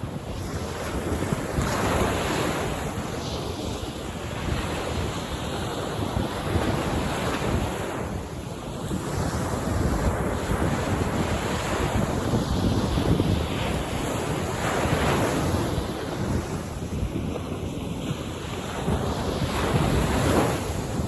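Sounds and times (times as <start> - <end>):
ocean waves breaking on beach: 0.0 - 21.0.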